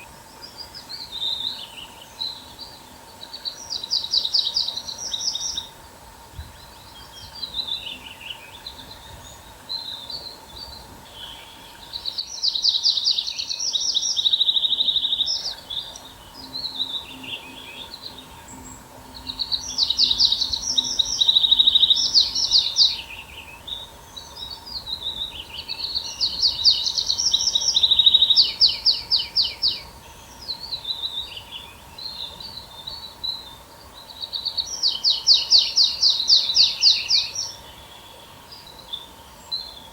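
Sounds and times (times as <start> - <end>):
faint steady hum: 0.0 - 39.9
songbird singing trills: 0.0 - 39.9
soft bird twittering: 6.5 - 39.9.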